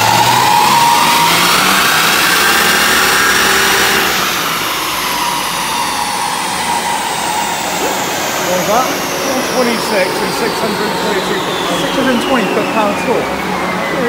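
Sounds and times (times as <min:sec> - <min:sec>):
engine and rollers whining: 0:00.0 - 0:14.0
fan rushing: 0:00.0 - 0:14.0.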